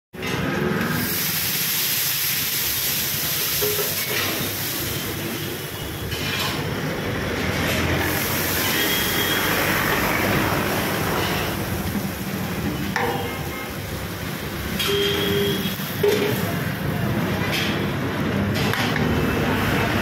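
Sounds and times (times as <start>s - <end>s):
water sizzling on hot griddle: 0.3s - 6.5s, 7.1s - 17.7s.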